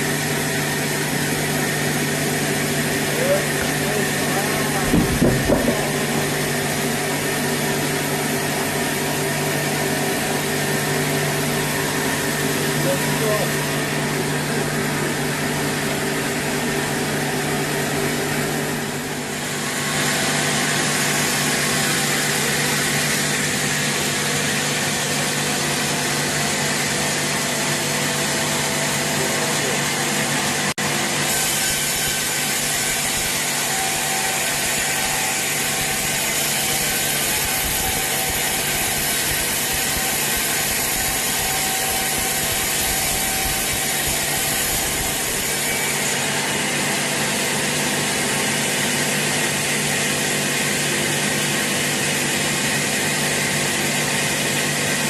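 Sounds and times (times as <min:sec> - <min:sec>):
saw blade rasping through log: 0:00.0 - 0:55.0.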